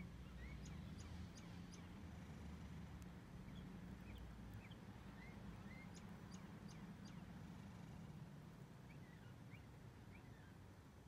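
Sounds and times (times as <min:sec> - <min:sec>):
small birds chirping: 0:00.0 - 0:08.1, 0:08.8 - 0:10.6.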